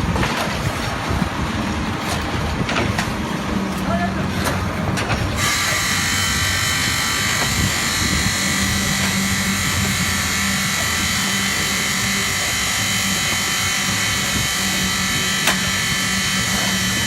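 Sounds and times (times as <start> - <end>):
concrete pump mechanical hum: 0.0 - 17.0
high whine: 0.8 - 17.0.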